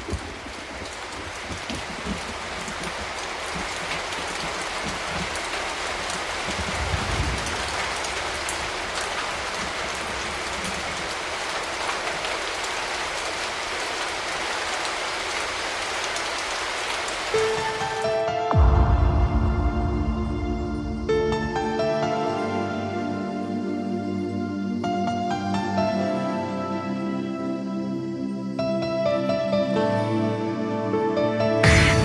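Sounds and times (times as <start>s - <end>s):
heavy rain on hard surface: 0.0s - 24.0s, 28.6s - 32.0s.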